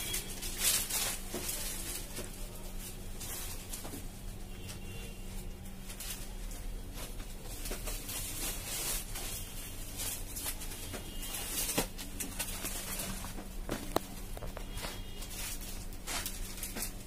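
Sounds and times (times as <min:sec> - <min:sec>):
fabric rustling: 0:00.0 - 0:17.0
steady hum: 0:00.0 - 0:17.0.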